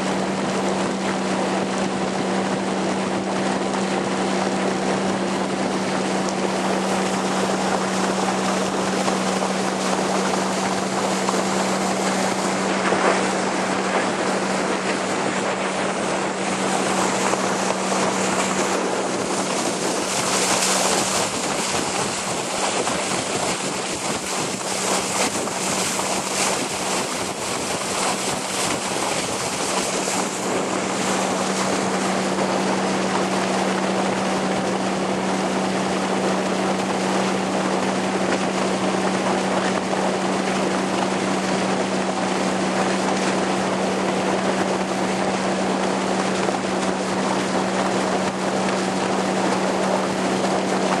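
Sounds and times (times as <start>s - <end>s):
boat engine hum: 0.0s - 51.0s
water rushing over bow: 0.0s - 51.0s
wind buffeting microphone: 0.0s - 51.0s.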